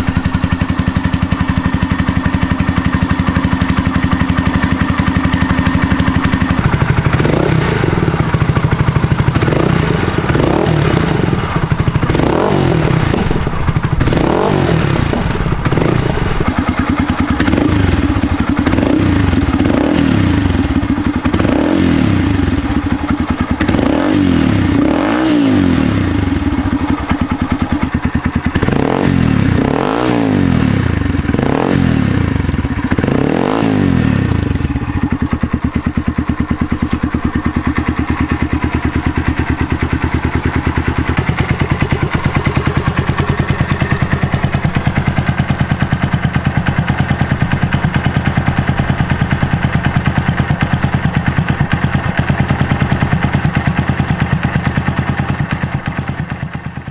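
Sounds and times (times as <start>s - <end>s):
motorcycle engine revving and idling: 0.0s - 56.9s.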